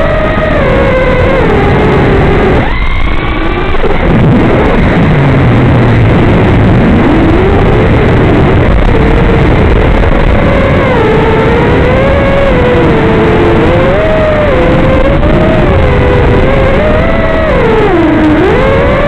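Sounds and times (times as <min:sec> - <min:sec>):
quadcopter motors whining: 0:00.0 - 0:19.0
static hiss: 0:00.0 - 0:19.0.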